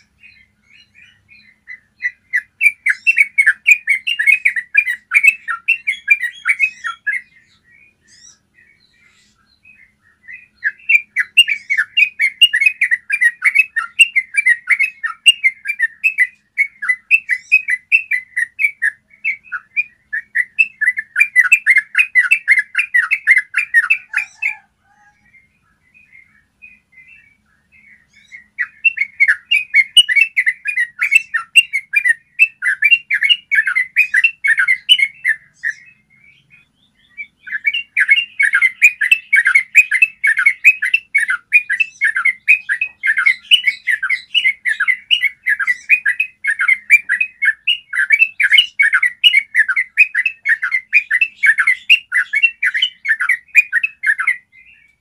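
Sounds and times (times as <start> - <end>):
bulbul singing rolling song: 0.0 - 55.0.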